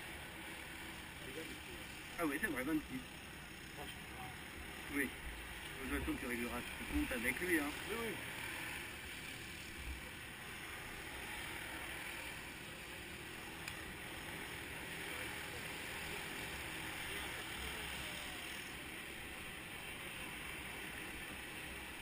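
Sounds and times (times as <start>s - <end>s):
distant go-kart engines droning: 0.0s - 22.0s.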